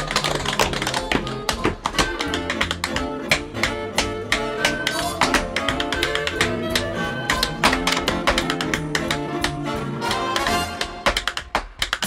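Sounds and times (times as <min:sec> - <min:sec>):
instrumental backing music: 0:00.0 - 0:12.0
tap shoes striking: 0:00.0 - 0:12.0.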